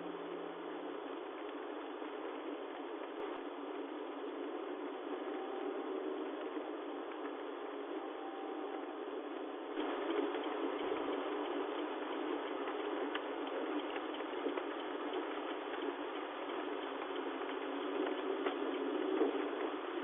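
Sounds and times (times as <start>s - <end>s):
heavy rain on car roof: 0.0s - 20.0s.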